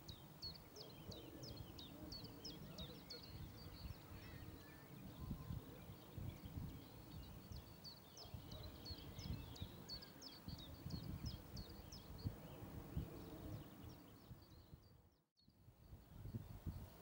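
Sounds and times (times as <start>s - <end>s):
distant birds singing: 0.0s - 17.0s.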